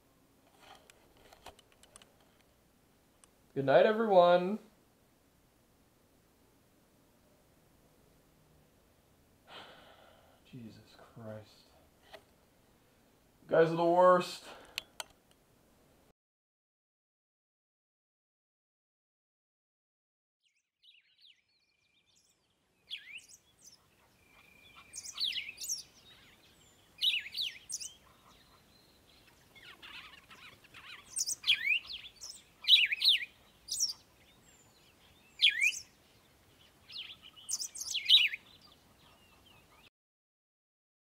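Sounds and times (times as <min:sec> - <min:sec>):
songbirds chirping: 0:00.0 - 0:15.4, 0:20.4 - 0:39.9.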